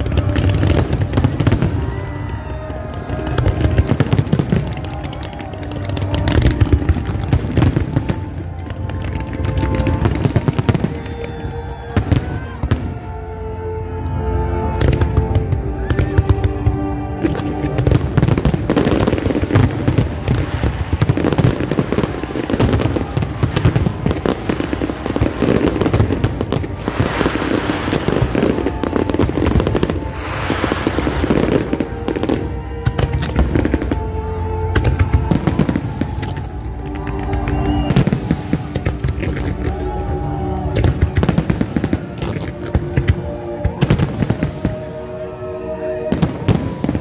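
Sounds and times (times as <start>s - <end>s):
fireworks bangs and crackles: 0.0s - 13.2s, 14.7s - 45.1s, 46.0s - 47.0s
music playing: 0.0s - 47.0s.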